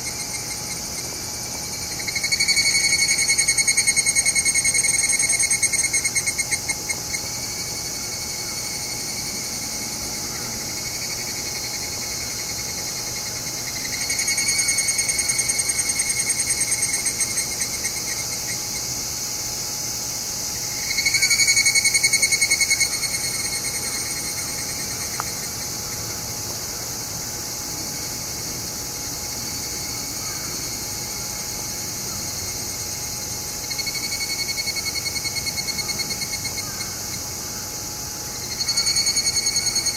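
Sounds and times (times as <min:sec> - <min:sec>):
cicadas calling in pulsing phrases: 0:00.0 - 0:39.9
high insect chorus: 0:00.0 - 0:39.9.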